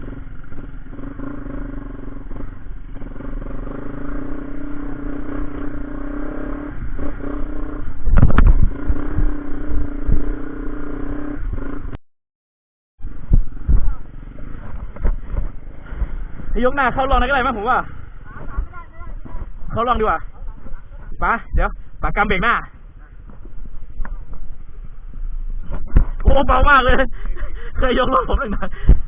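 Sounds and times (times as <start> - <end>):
motorcycle engine running: 0.0 - 12.0, 13.0 - 29.0.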